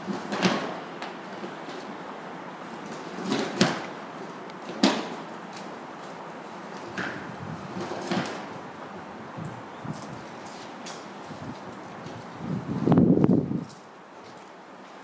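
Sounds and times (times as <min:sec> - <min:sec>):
background noise: 0:00.0 - 0:15.0.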